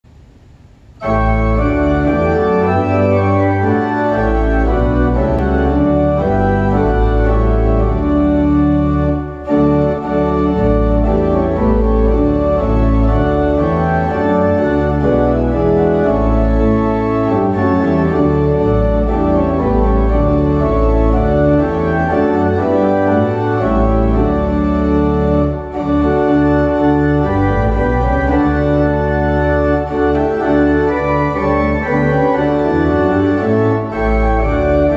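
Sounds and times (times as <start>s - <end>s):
organ playing a hymn: 1.0s - 34.9s.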